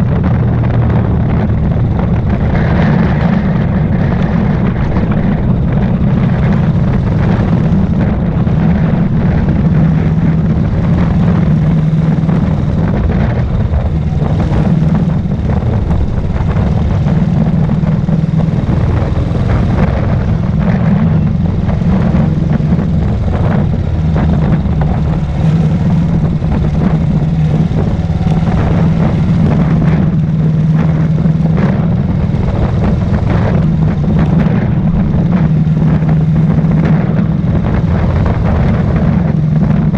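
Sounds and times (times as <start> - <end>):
motorcycle engine thumping: 0.0 - 39.9.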